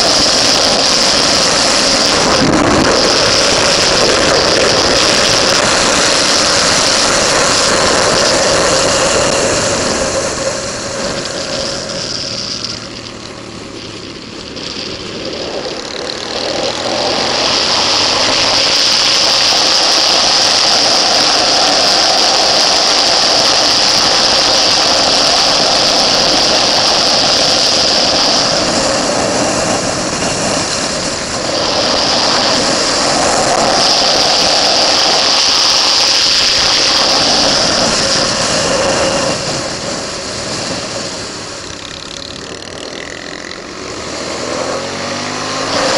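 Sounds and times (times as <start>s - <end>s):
motorcycle engine at speed: 0.0s - 45.9s
wind rushing over camera: 0.0s - 45.9s.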